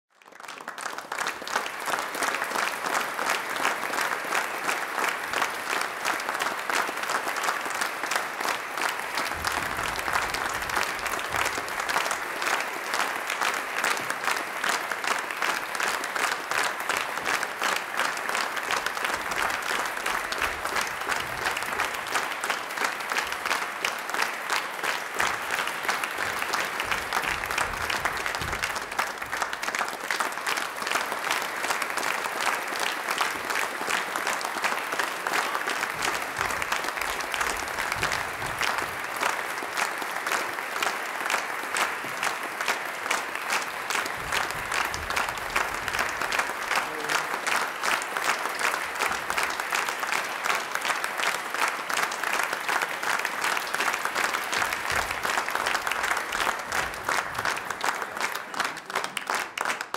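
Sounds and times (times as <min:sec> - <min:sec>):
crowd applause: 0:00.0 - 0:59.9.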